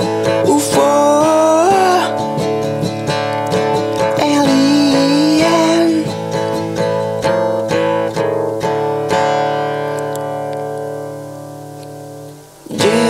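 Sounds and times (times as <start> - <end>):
guitar strumming: 0.0 - 13.0.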